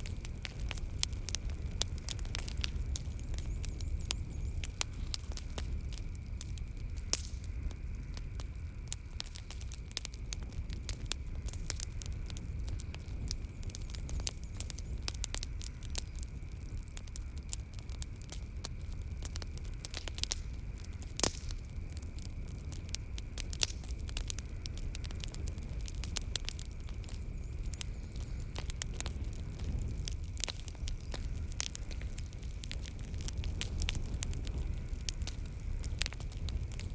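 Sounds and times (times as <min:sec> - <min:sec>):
night insects chirring: 0:00.0 - 0:36.9
wood fire crackling: 0:00.0 - 0:36.9.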